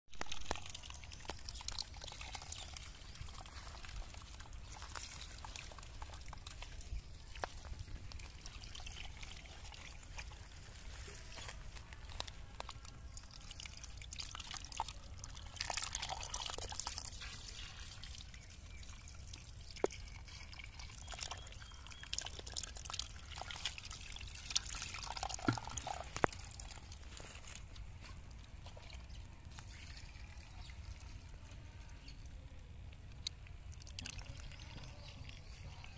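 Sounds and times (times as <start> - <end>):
muddy water trickling and sloshing: 0.1 - 35.9
small wet clicks and splashes: 0.1 - 35.9.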